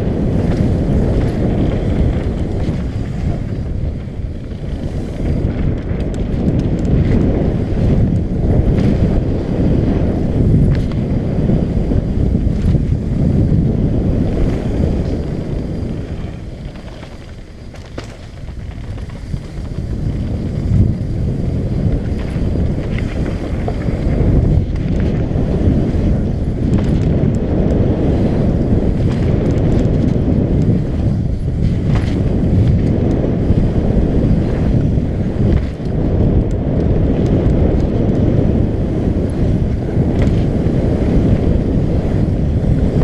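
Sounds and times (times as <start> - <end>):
bike clicks and rattles: 0.0 - 43.0
wind buffeting microphone: 0.0 - 43.0.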